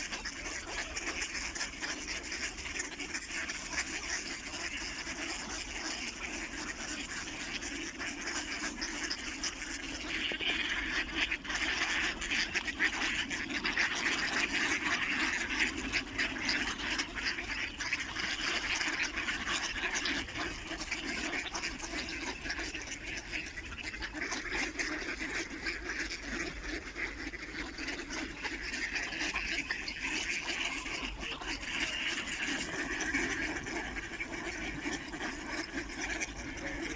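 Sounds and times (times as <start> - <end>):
flock of ducks quacking: 0.0 - 36.9.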